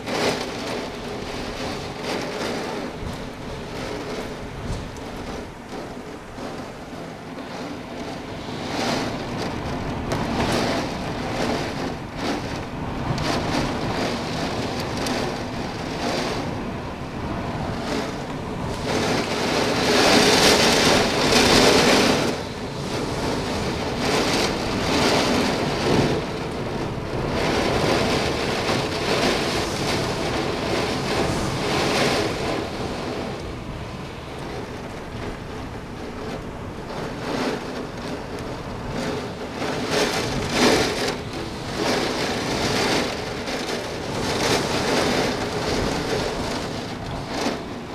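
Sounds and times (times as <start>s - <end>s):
gusting wind: 0.0s - 47.9s
heavy rain: 0.0s - 47.9s.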